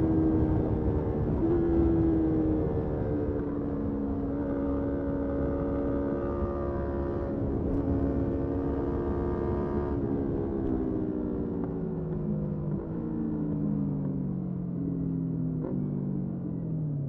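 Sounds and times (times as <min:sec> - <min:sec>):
road and wind rumble: 0:00.0 - 0:17.0.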